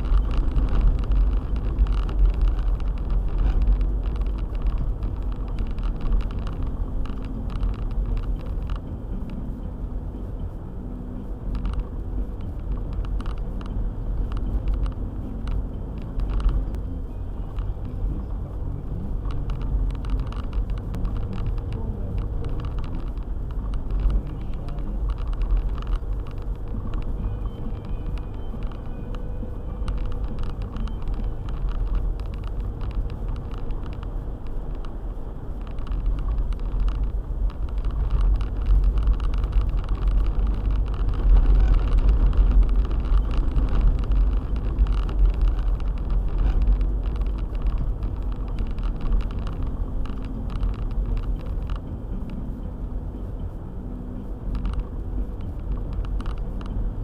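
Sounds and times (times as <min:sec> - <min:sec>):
small clicks and knocks: 0:00.0 - 0:09.4, 0:11.5 - 0:53.6, 0:54.2 - 0:57.0
car engine and tyres rumble: 0:00.0 - 0:57.0.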